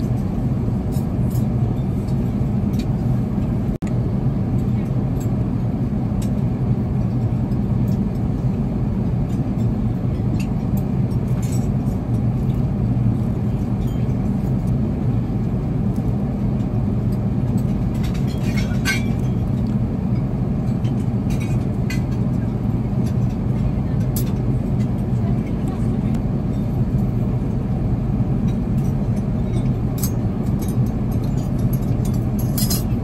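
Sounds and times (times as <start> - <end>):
aircraft cabin drone: 0.0 - 33.0.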